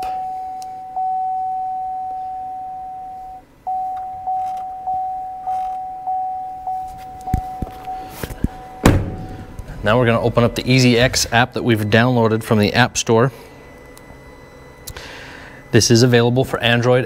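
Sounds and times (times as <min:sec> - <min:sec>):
vehicle warning chime: 0:00.0 - 0:17.0.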